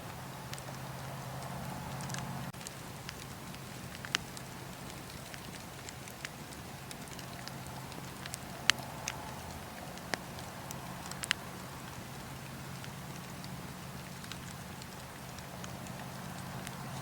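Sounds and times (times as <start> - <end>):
fire crackling and popping: 0.0 - 17.0
wood fire burning: 0.0 - 17.0.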